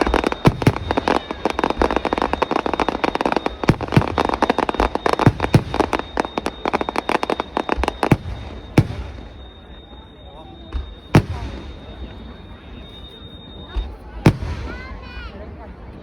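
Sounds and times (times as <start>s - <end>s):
fireworks booming bangs: 0.0s - 15.4s
fireworks crackling: 0.0s - 15.6s.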